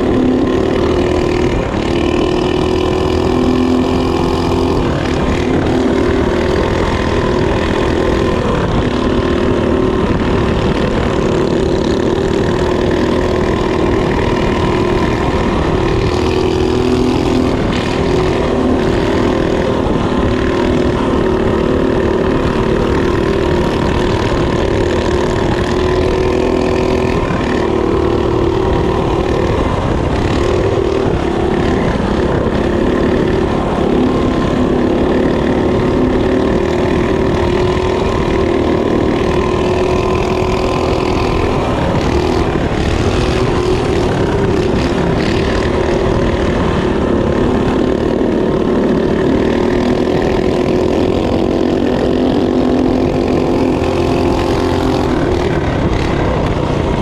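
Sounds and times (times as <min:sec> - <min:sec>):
mini bike engine revving: 0:00.0 - 0:57.0.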